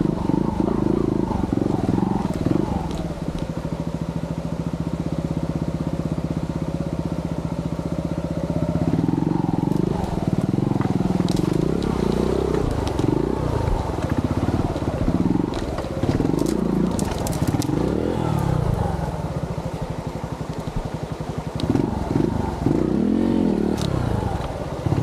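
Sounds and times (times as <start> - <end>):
stones clicking under tyres: 0.0 - 4.0, 8.5 - 25.0
motorcycle engine revving: 0.0 - 25.0.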